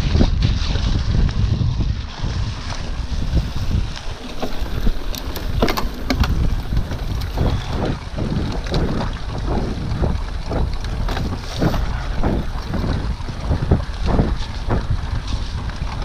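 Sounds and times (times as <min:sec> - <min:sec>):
mountain bike rumbling: 0:00.0 - 0:16.0
wind on microphone: 0:00.0 - 0:16.0
bike rattles and knocks: 0:02.6 - 0:16.0.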